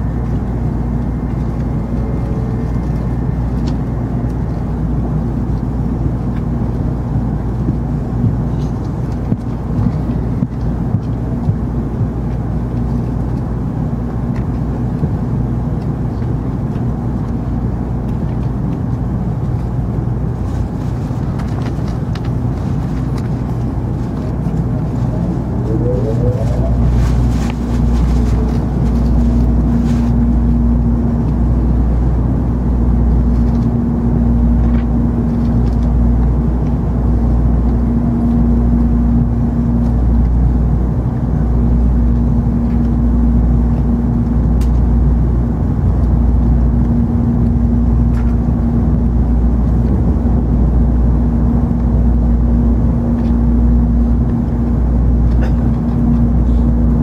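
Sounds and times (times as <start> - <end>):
steady hum: 0.0 - 18.4, 19.5 - 57.0
train running gear rumble: 0.0 - 57.0.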